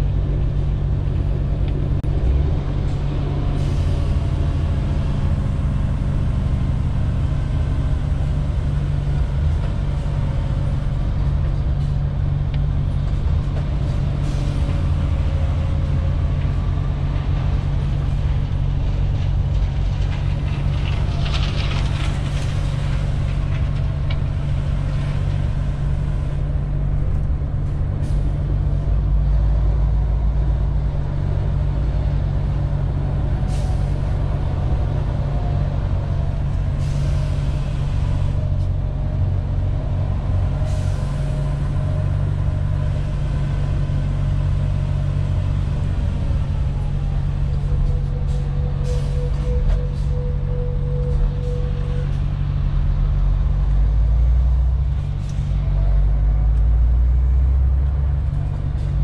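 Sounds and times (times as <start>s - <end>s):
road noise inside cab: 0.0s - 59.0s
truck diesel engine drone: 0.0s - 59.0s.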